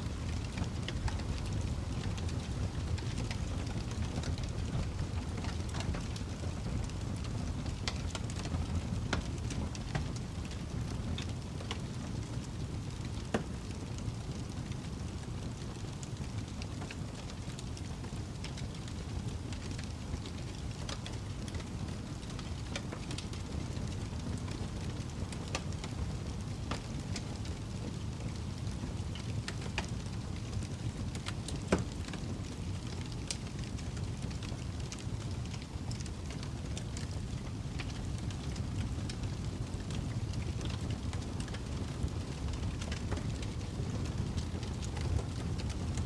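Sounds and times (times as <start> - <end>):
wood fire crackling: 0.0 - 46.0
pops and snaps of fire: 0.1 - 46.0.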